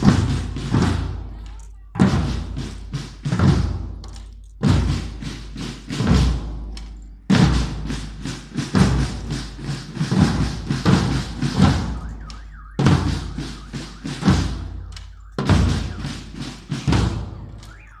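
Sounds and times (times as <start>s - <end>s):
marching band drums: 0.0s - 18.0s.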